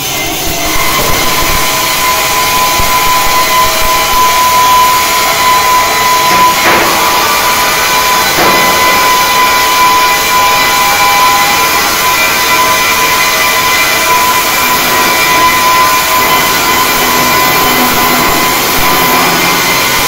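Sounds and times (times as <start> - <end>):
machinery with high whine: 0.0 - 20.0.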